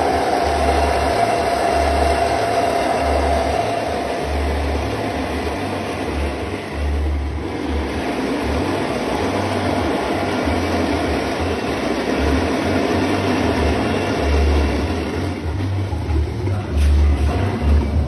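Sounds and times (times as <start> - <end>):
dehulling machine running: 0.0 - 18.0.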